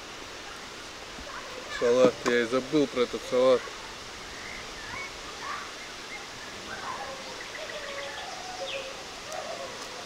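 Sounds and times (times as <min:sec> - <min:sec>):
steady background hiss: 0:00.0 - 0:10.0
birds singing: 0:01.4 - 0:10.0.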